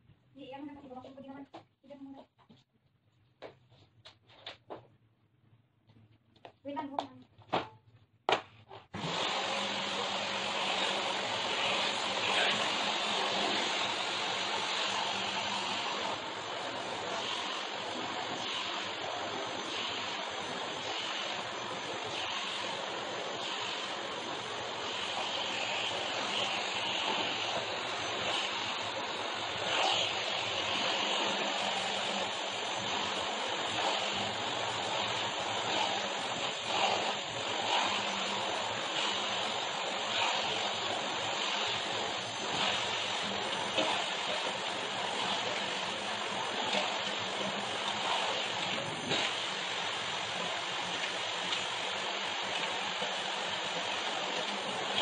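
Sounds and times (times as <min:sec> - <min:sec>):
vacuum cleaner on rug: 0:08.8 - 0:55.0.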